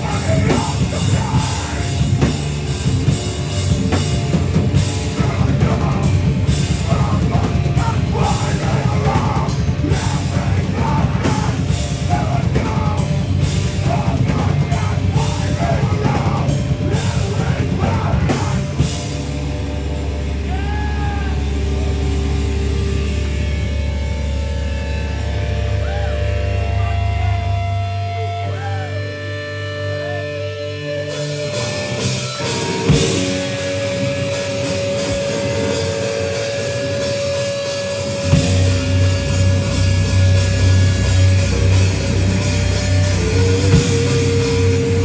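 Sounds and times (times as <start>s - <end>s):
drum kit playing fast: 0.0s - 29.8s, 30.9s - 45.0s
heavy band playing: 0.0s - 45.0s.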